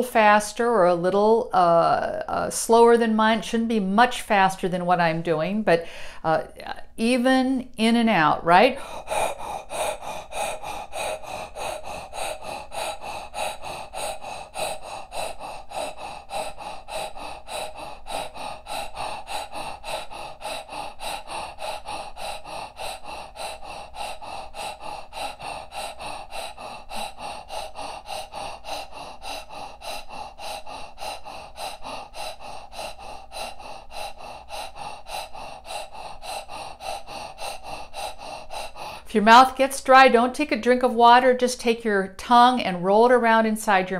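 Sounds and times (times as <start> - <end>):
woman breathing rapidly: 0.0 - 43.9.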